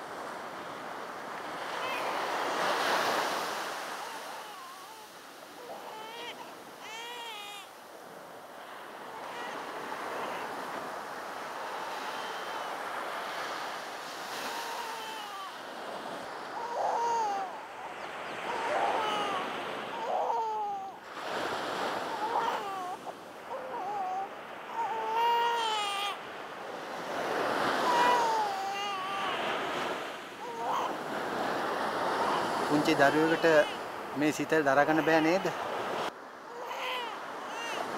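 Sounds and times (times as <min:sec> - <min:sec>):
ocean surf washing: 0:00.0 - 0:37.9.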